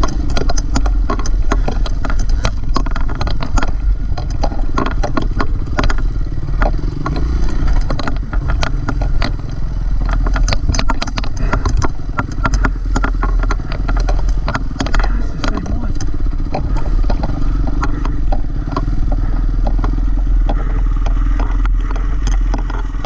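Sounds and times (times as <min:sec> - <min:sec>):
dirt bike engine at low revs: 0:00.0 - 0:23.0
sharp clicks and clatter: 0:00.0 - 0:23.0.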